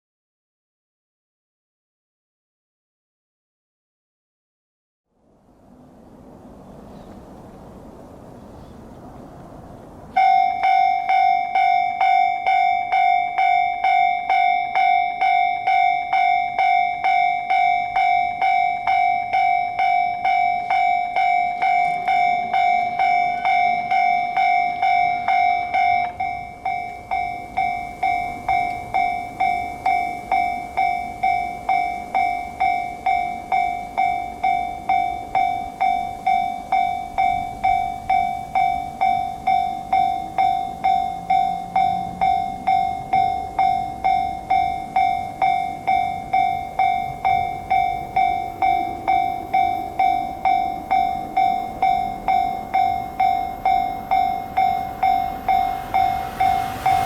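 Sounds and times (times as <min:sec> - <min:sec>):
level crossing warning bell: 0:10.1 - 0:57.0.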